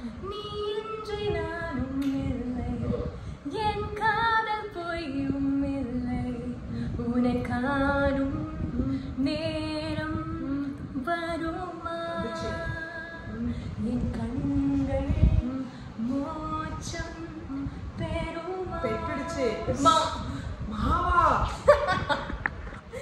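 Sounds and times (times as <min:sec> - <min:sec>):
woman singing unaccompanied: 0:00.0 - 0:21.7.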